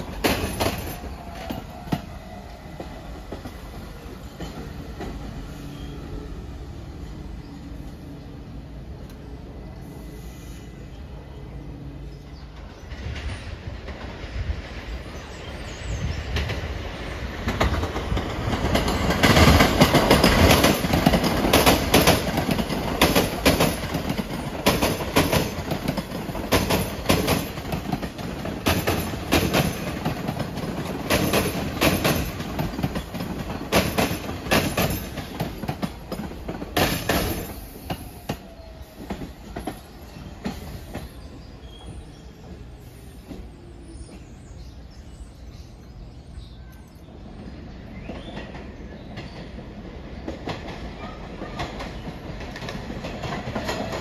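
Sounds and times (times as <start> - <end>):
subway train wheels clattering: 0.0 - 54.0.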